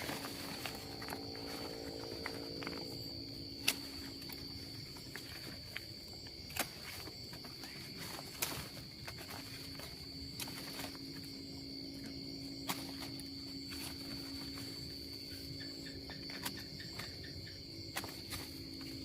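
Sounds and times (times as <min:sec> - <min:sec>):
insects chirring: 0:00.0 - 0:19.0
steady low hum: 0:00.0 - 0:19.0.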